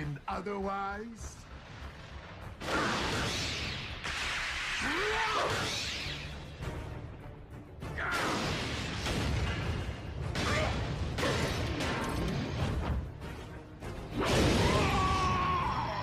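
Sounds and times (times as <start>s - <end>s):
dramatic orchestral score: 0.0s - 16.0s.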